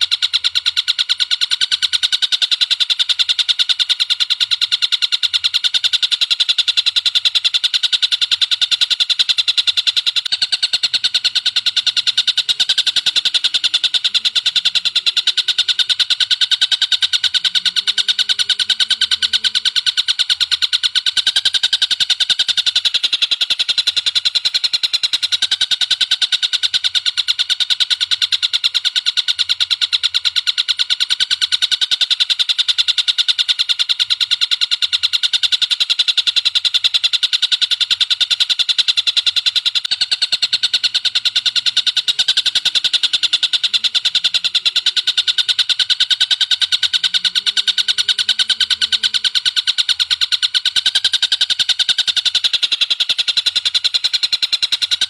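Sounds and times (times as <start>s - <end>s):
bird trilling rapidly: 0.0s - 55.0s.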